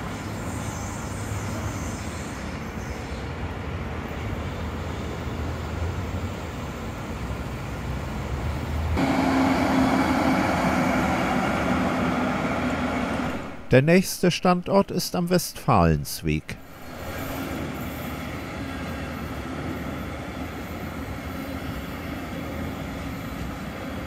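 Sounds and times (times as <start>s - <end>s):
train rolling past humming: 0.0s - 13.7s, 16.6s - 24.0s.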